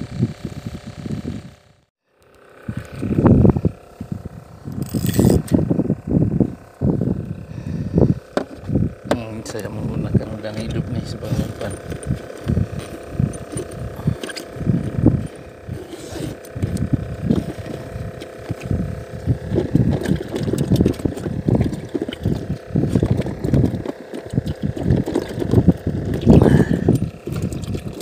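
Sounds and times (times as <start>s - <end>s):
engine humming: 0.0s - 28.0s
low rumbles and thumps: 3.0s - 15.8s, 16.5s - 28.0s.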